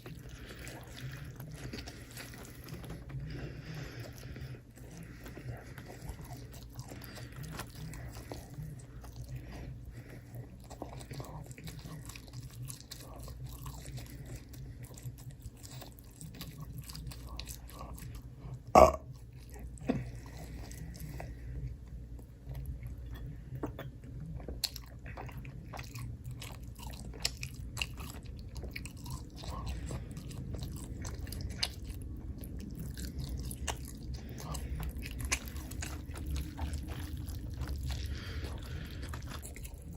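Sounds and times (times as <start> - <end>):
chewing and biting food: 0.0 - 39.9.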